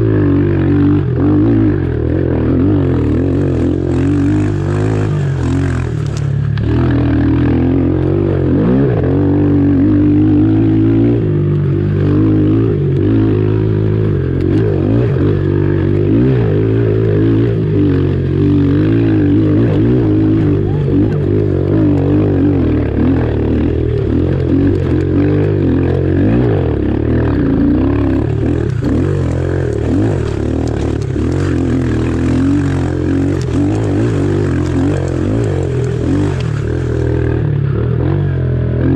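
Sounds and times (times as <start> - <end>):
small motorbike engine revving: 0.0 - 38.9.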